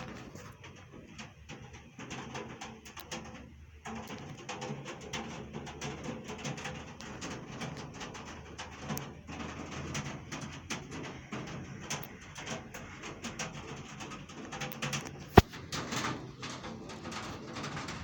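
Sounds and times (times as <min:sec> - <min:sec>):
raindrops tapping and dripping: 0:00.0 - 0:18.0.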